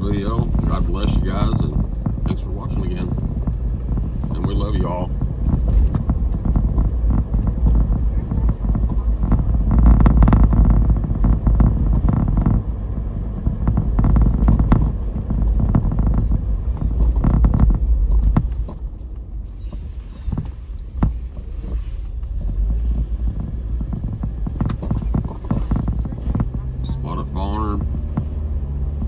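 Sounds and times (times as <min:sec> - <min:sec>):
tyres rumbling on road: 0:00.0 - 0:29.0.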